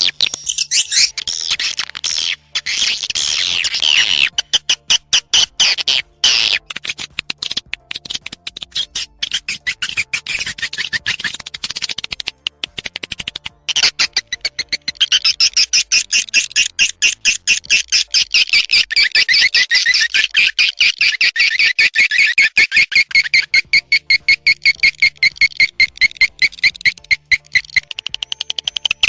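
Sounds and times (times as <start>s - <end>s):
swiftlets chirping: 0.0s - 29.0s.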